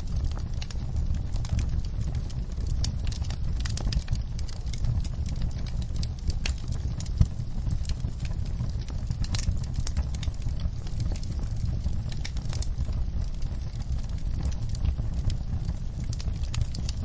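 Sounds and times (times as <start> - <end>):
low rumble of flames: 0.0 - 17.0
sharp pops of fire: 0.0 - 17.0
wood fire crackling: 0.0 - 17.0.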